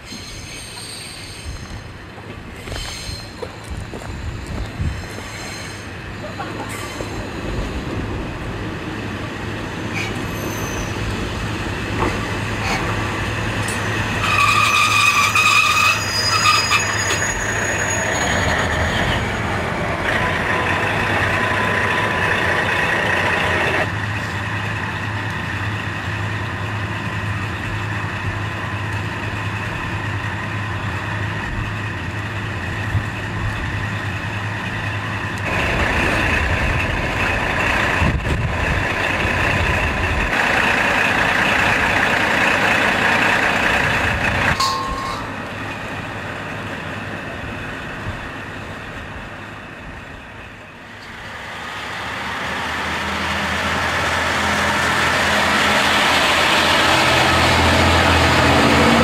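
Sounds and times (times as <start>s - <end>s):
diesel railcar engine idling: 5.8s - 59.0s.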